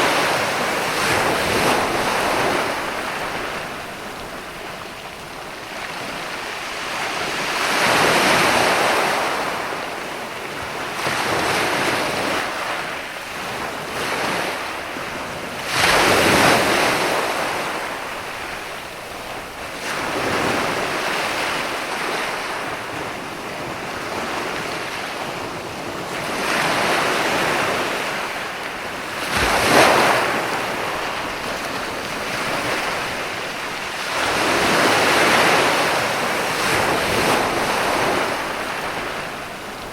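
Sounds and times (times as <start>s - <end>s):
ocean waves breaking on shore: 0.0s - 39.9s
wind noise: 0.0s - 39.9s.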